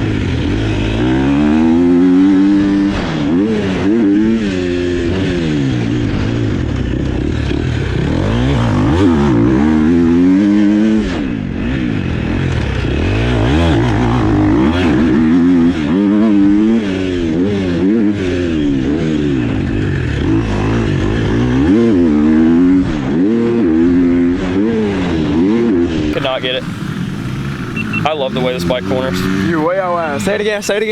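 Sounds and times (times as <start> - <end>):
dirt bike engine revving: 0.0 - 25.1, 26.1 - 30.9.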